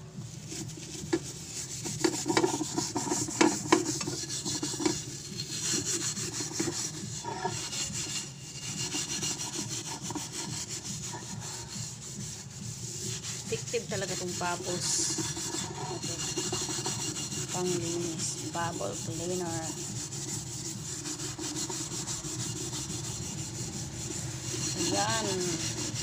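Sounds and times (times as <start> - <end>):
steel wool scrubbing a metal pan: 0.0 - 26.0.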